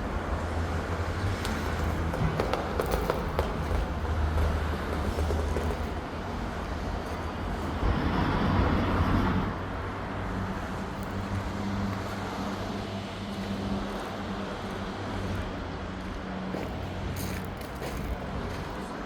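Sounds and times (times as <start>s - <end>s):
outdoor noise: 0.0s - 19.0s.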